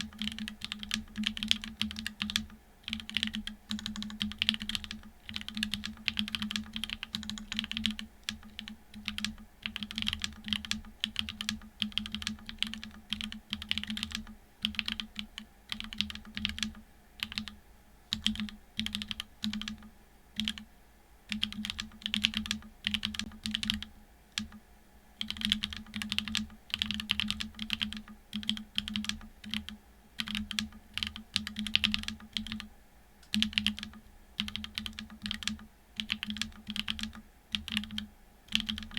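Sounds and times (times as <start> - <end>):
mechanical keyboard typing: 0.0 - 20.6, 21.3 - 24.6, 25.2 - 38.9.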